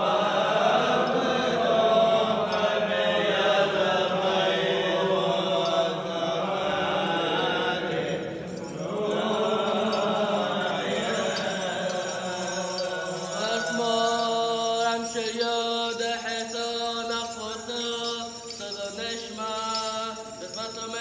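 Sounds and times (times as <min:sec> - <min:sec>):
men chanting liturgy: 0:00.0 - 0:21.0.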